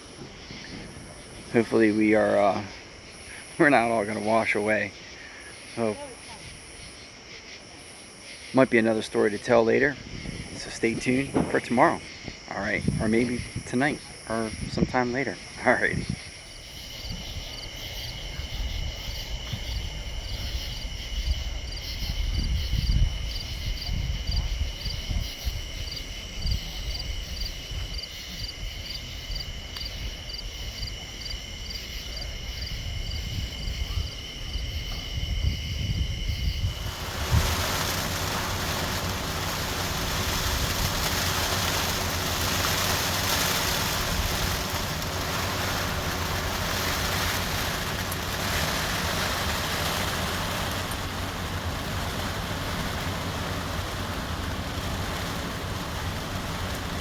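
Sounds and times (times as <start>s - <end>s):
wind rumble on microphone: 0.0s - 3.7s, 9.4s - 57.0s
insects trilling: 0.0s - 57.0s
storm rain and wind hiss: 0.0s - 57.0s.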